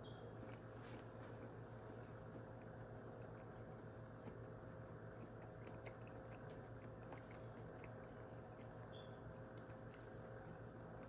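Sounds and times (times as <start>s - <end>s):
steady low hum: 0.0s - 11.0s
person chewing soft food: 0.1s - 11.0s.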